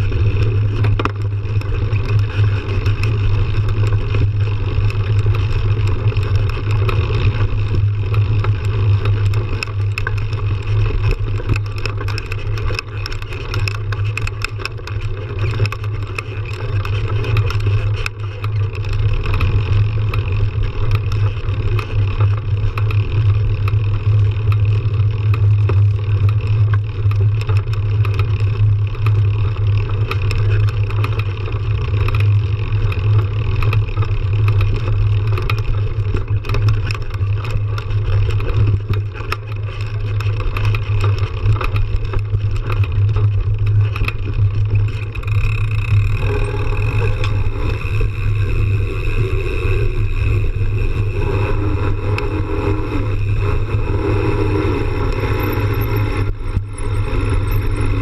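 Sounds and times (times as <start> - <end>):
bike tyre rattles and crunches: 0.0 - 58.0
wind rumble on camera: 0.0 - 58.0.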